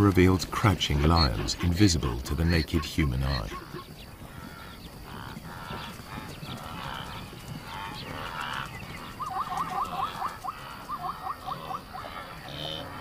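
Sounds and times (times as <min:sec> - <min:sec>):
fast repeated short animal calls: 0:00.5 - 0:13.0
animal honking calls: 0:00.8 - 0:13.0.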